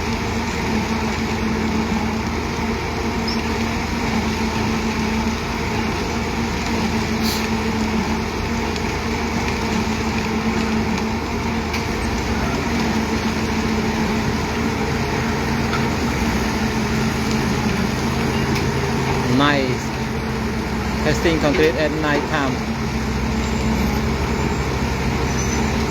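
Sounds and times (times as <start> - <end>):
heavy machinery engine humming: 0.0 - 25.9.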